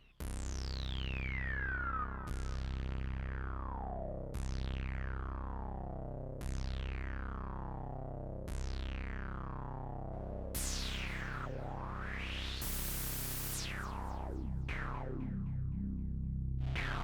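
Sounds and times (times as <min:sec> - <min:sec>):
buzzy synthesizer bass tone: 0:00.4 - 0:17.0.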